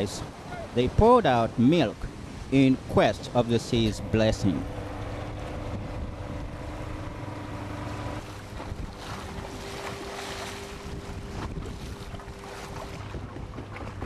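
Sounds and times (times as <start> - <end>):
water rushing past hull: 0.0 - 14.0
wind on microphone: 2.0 - 14.0
boat engine running: 2.1 - 14.0.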